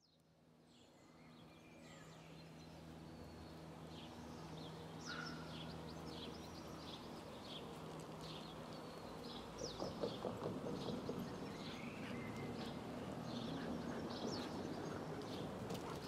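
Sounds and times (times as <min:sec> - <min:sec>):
birds chirping: 0:01.2 - 0:16.0.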